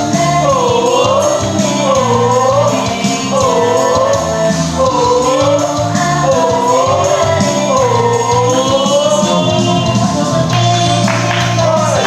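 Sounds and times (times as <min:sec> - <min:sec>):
person singing: 0:00.0 - 0:12.0
pop song over sound system: 0:00.0 - 0:12.0.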